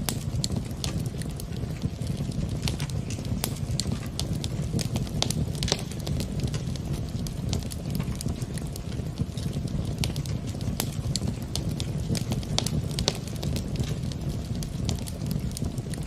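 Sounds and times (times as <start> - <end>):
low rumble of fire: 0.0 - 16.0
wood fire crackling: 0.0 - 16.0.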